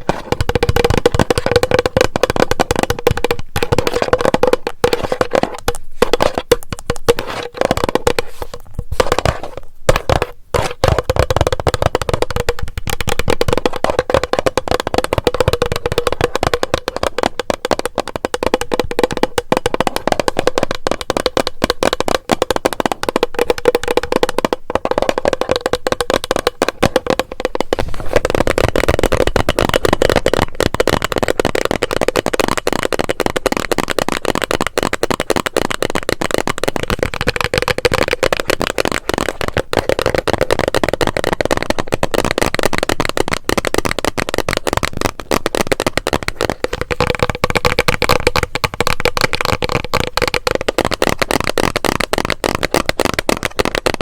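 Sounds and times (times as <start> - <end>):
tapping on plastic bottle: 0.0 - 54.0.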